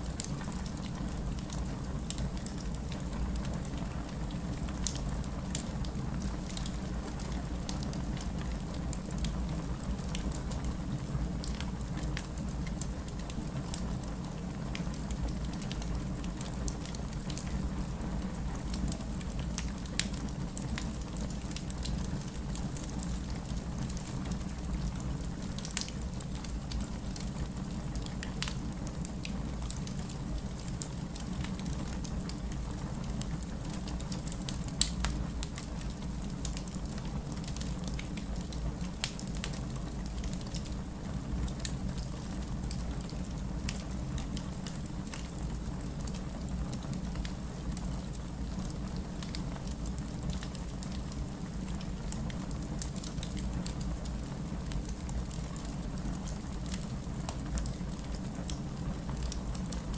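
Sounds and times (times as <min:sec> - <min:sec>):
burning logs crackling and popping: 0:00.0 - 0:59.9
low rumble of flames: 0:00.0 - 0:59.9.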